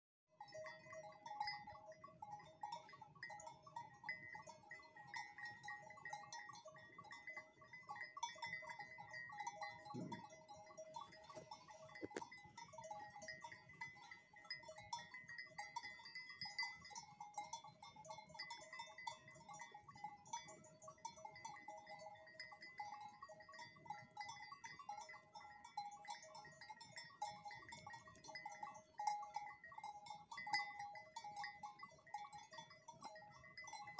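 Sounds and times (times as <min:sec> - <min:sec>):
sheep bells clanking: 0:00.4 - 0:33.9.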